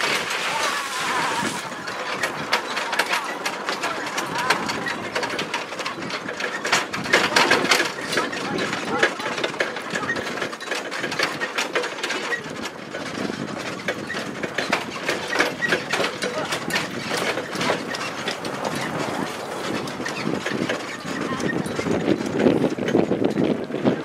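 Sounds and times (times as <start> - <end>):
dog cart rattling on dirt trail: 0.0 - 24.0.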